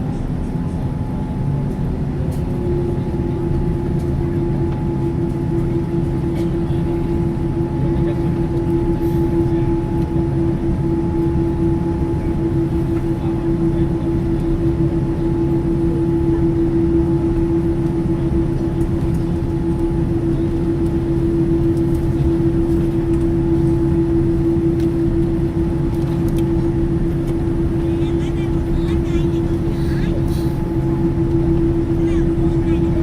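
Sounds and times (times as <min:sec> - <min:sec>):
jet engines droning: 0:00.0 - 0:33.0.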